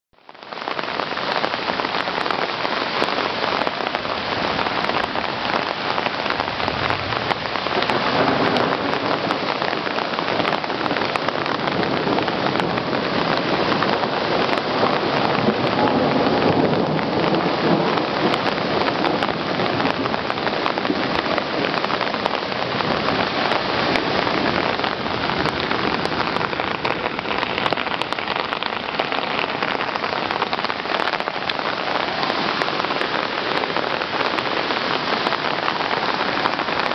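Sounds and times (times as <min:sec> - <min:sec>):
flooded stream rushing: 0:00.2 - 0:36.9
torrential rain pouring: 0:00.2 - 0:36.9.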